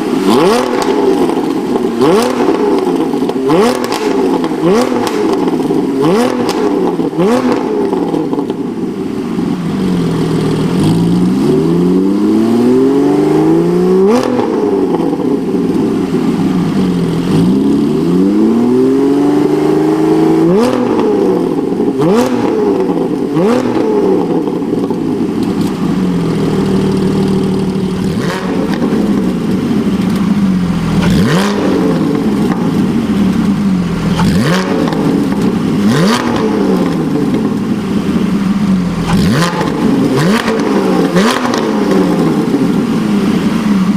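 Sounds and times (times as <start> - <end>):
sports car engine revving: 0.0 - 43.9.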